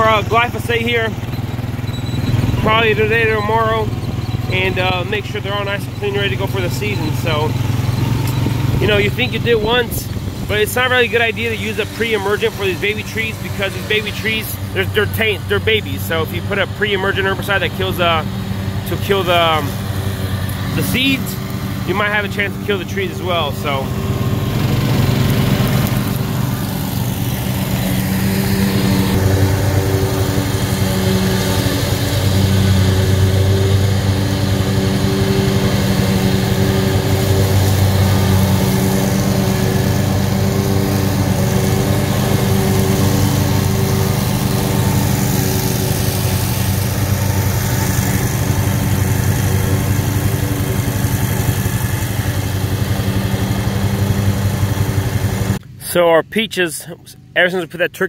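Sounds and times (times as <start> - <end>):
riding mower engine droning: 0.0 - 58.0.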